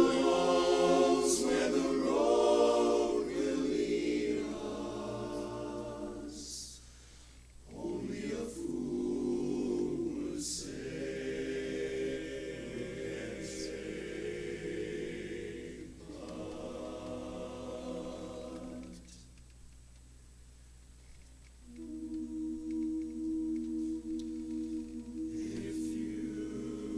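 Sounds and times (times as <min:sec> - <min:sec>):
a cappella chorus singing: 0:00.0 - 0:07.0, 0:07.6 - 0:19.2, 0:21.7 - 0:26.9.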